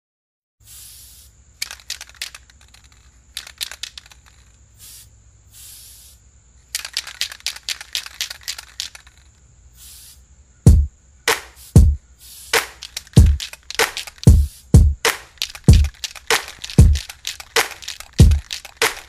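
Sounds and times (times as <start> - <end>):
spray can rattling: 0.6 - 10.2, 11.3 - 19.0
spray paint hissing: 0.6 - 10.3, 11.3 - 19.0.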